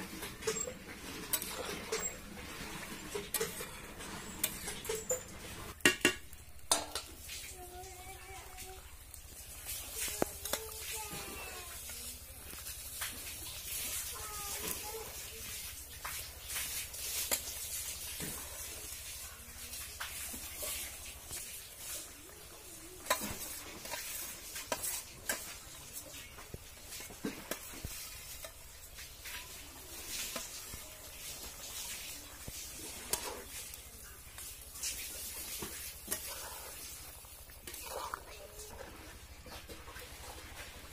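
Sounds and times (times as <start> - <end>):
metal spatula scraping a pan: 0.0 - 6.0, 9.6 - 22.1, 22.7 - 40.7
curry sizzling and bubbling: 0.0 - 40.9.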